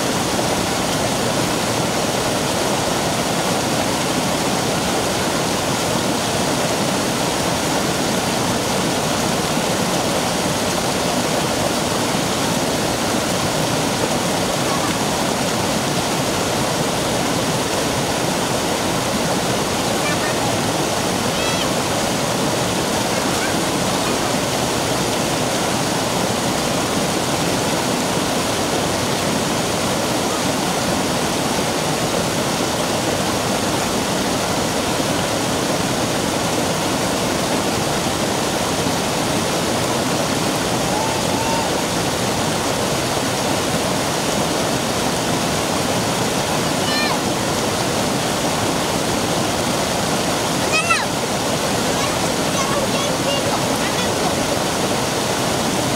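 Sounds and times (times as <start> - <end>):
stream rushing over rock: 0.0 - 55.9.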